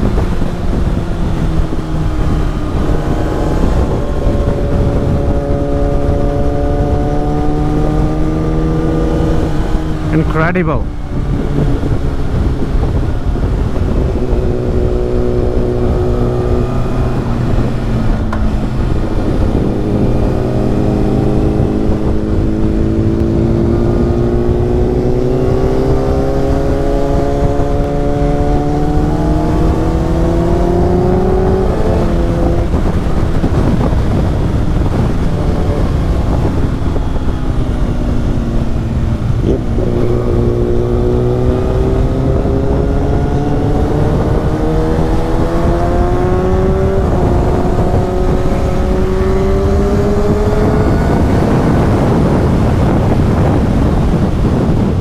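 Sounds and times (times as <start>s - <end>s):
motorcycle engine under way: 0.0s - 55.0s.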